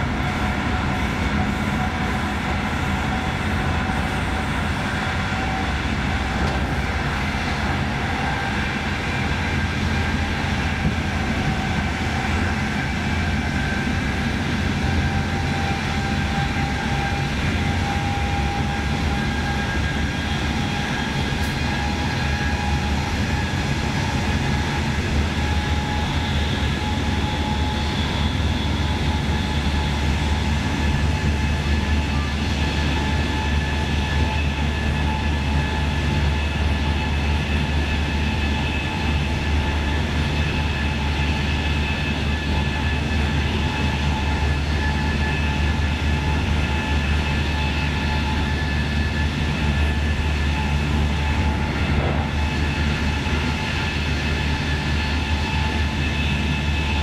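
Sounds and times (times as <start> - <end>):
steady whining tones: 0.0 - 57.0
train wheels rumbling on rail: 0.0 - 57.0.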